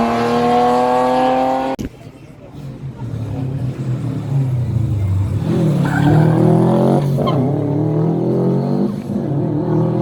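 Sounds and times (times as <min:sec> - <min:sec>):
rally car engine revving: 0:00.0 - 0:01.8, 0:03.3 - 0:10.0.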